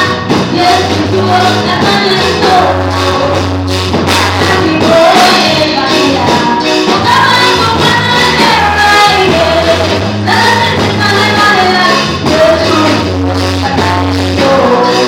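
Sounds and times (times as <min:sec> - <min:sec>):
backing voices singing: 0:00.0 - 0:15.0
gospel band playing: 0:00.0 - 0:15.0
woman singing lead: 0:00.0 - 0:15.0.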